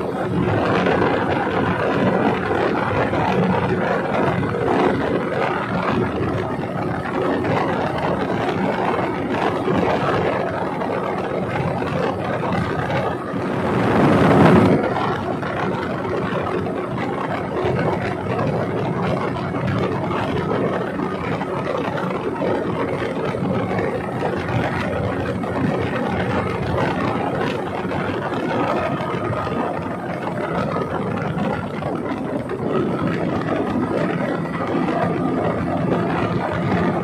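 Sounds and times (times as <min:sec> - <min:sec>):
boat engine running: 0:00.0 - 0:37.0
rush of wind and water: 0:00.0 - 0:37.0.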